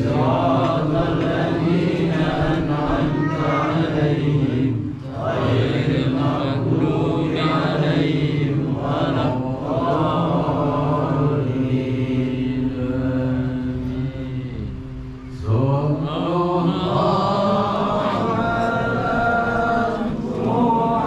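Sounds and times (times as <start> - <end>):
men chanting together: 0.0 - 14.7, 15.4 - 21.0.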